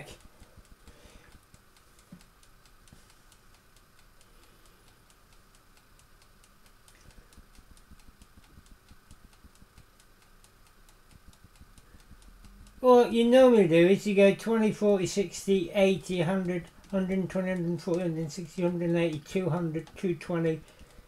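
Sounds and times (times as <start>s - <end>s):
faint mechanical ticking: 0.0s - 21.0s.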